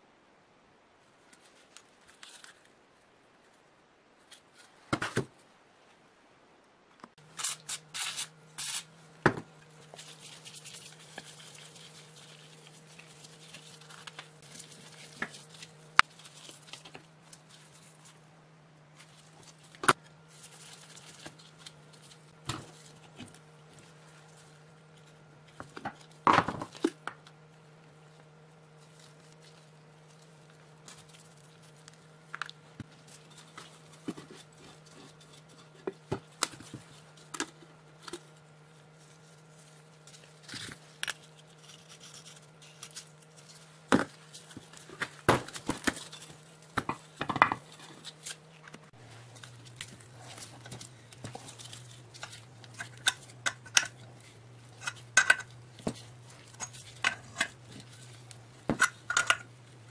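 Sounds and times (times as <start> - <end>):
steady low hum: 5.0 - 59.9.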